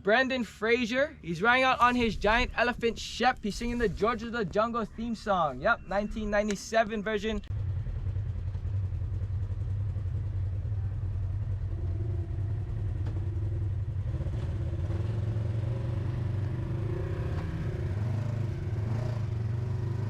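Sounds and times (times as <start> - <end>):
off-road vehicle engine droning: 2.0 - 20.0.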